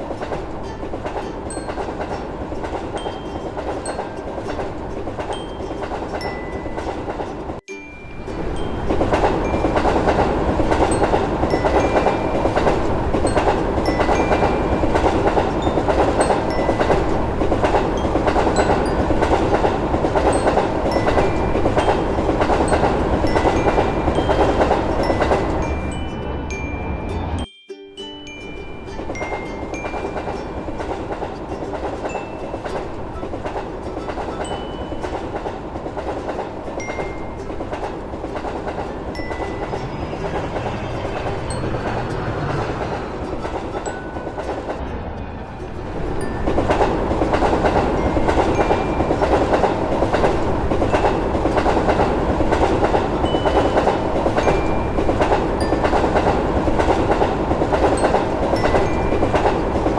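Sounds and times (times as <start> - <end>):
train wheels clattering on rails: 0.0 - 7.7, 8.3 - 26.6, 28.6 - 59.9.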